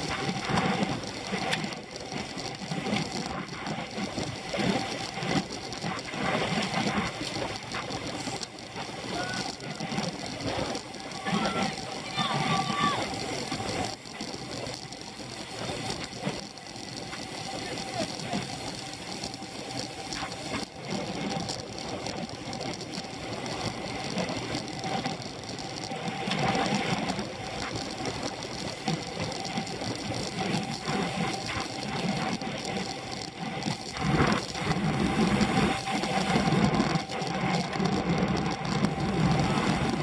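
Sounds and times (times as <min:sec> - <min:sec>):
bicycle mechanical whirr: 0:00.0 - 0:40.0.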